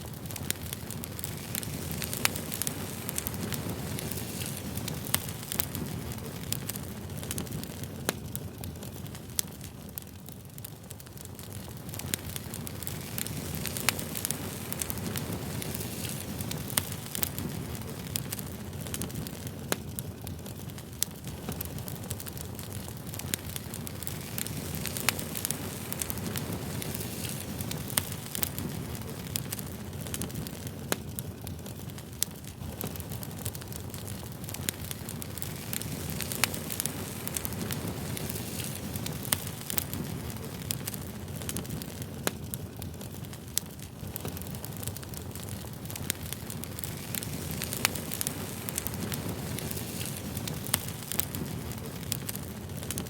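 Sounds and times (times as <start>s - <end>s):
fire popping and snapping: 0.0s - 53.0s
low rumble of flames: 0.0s - 53.0s.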